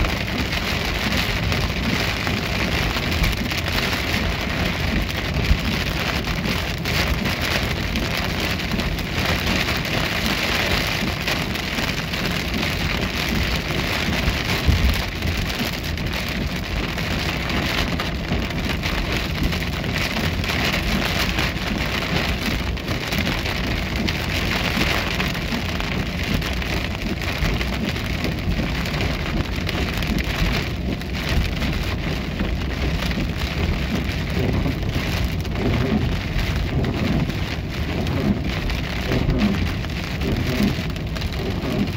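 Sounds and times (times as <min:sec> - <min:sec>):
car rumbling on wet road: 0:00.0 - 0:41.9
heavy rain on car windshield: 0:00.0 - 0:41.9.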